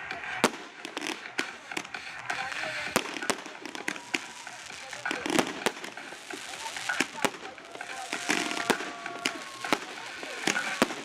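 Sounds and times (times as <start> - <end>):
crackle of firework stars: 0.0 - 11.0
firework shells bursting: 0.4 - 11.0.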